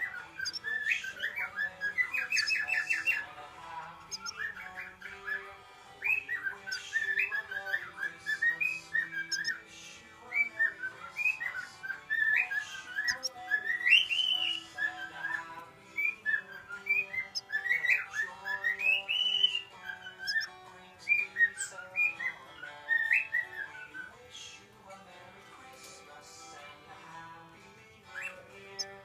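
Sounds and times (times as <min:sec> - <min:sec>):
canary singing: 0:00.0 - 0:29.0
soft steady background tones: 0:00.0 - 0:29.0.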